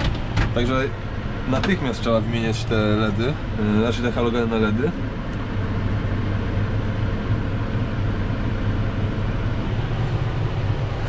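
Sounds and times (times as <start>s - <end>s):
tractor diesel engine humming: 0.0s - 11.0s.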